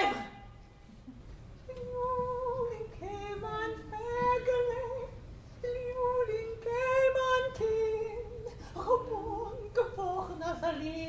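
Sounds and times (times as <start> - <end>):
woman singing slow melody: 1.7 - 11.0.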